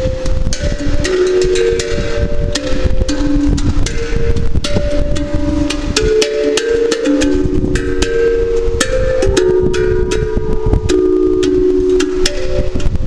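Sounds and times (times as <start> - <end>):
steel tongue drum notes: 0.0 - 13.0.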